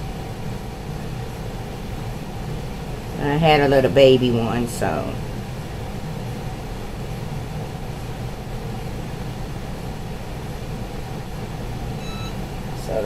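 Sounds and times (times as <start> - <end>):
room background rumble and hiss: 0.0 - 13.0.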